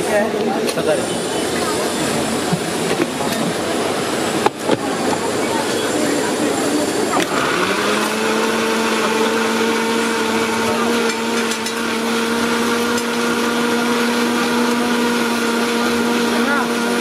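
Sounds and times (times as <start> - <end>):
blender running: 0.9 - 17.0.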